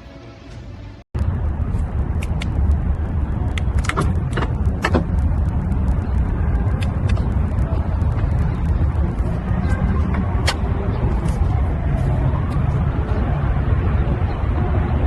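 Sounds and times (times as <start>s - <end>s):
car engine rumbling: 0.8s - 15.0s.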